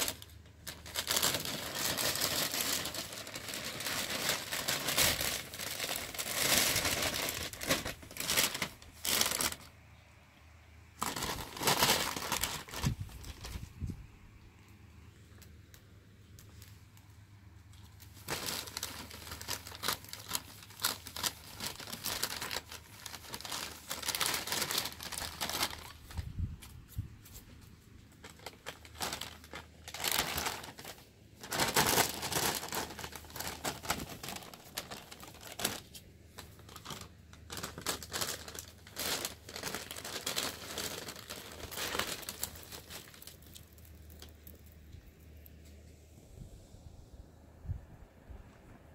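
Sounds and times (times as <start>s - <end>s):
plastic bag crinkling: 0.0s - 9.8s, 10.9s - 13.9s, 16.2s - 45.6s.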